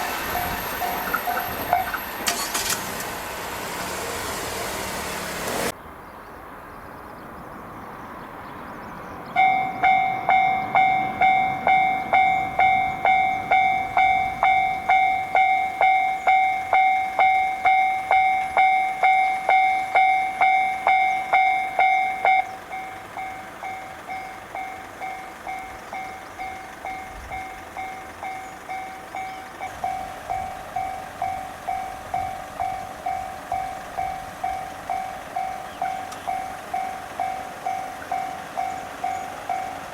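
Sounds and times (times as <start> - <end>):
level crossing warning bell: 0.0 - 2.9, 9.3 - 39.9.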